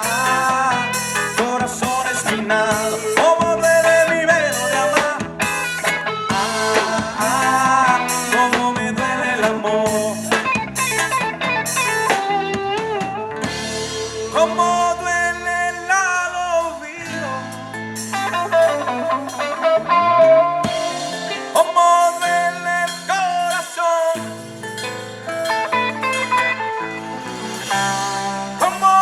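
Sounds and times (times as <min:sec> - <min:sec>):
guitar-led instrumental music: 0:00.0 - 0:29.0.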